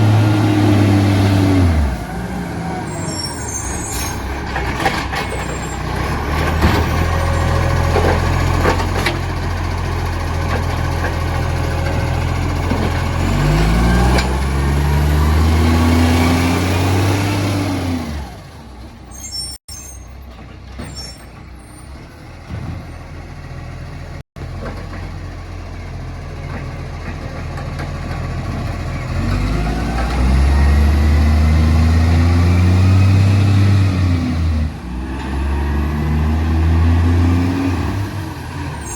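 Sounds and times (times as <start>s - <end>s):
garbage truck diesel engine revving: 0.0s - 18.8s, 26.0s - 38.9s.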